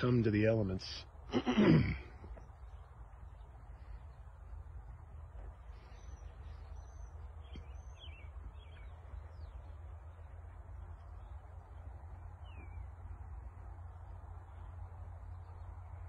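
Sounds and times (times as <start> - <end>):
low rumble and hiss: 0.0 - 16.0
small birds chirping: 0.0 - 16.0.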